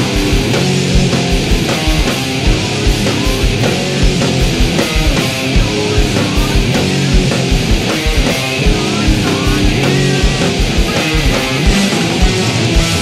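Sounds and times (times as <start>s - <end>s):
loud rock music: 0.0s - 13.0s.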